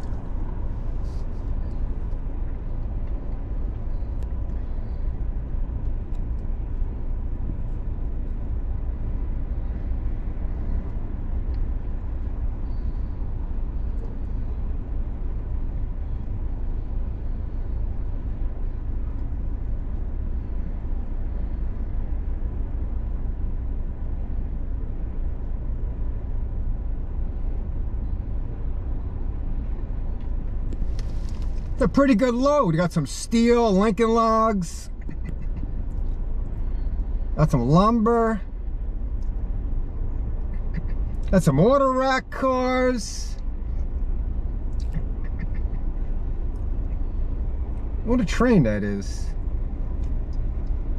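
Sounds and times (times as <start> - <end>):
vehicle idling low rumble: 0.0 - 50.9.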